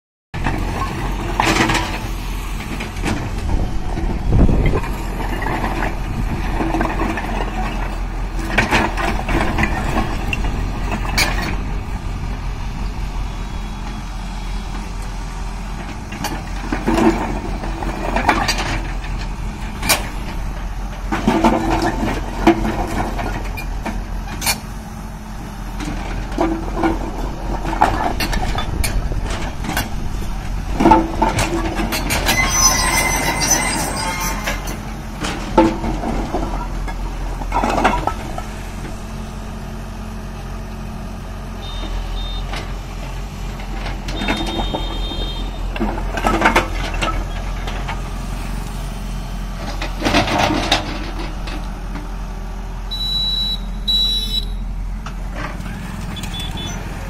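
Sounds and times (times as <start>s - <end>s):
diesel excavator engine running: 0.4s - 57.0s.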